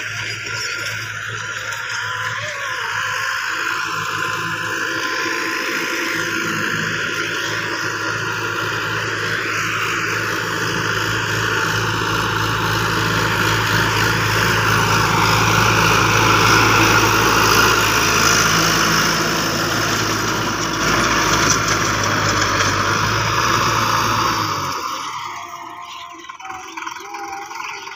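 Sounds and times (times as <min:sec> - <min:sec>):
rotary tiller churning soil: 0:00.0 - 0:27.9
tractor diesel engine running: 0:00.0 - 0:27.9.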